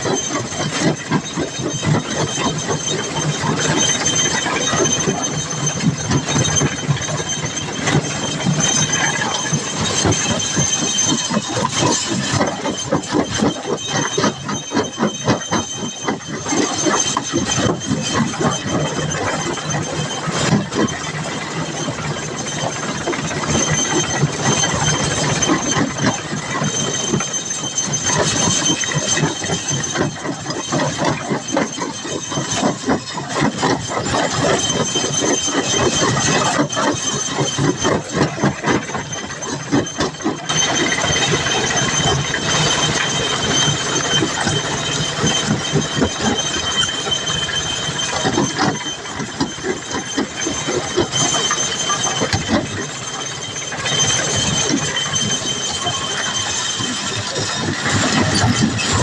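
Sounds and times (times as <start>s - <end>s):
high-pitched squeal: 0.0s - 59.0s
machinery clattering rattle: 0.0s - 59.0s.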